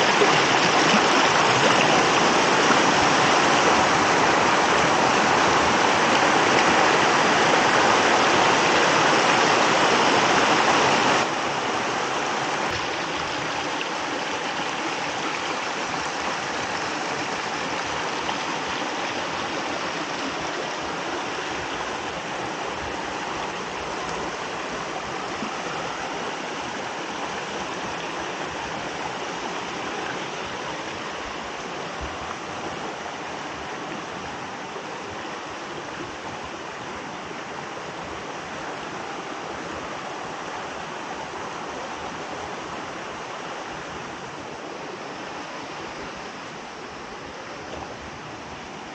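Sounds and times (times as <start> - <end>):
creek water rushing over rocks: 0.0 - 48.9.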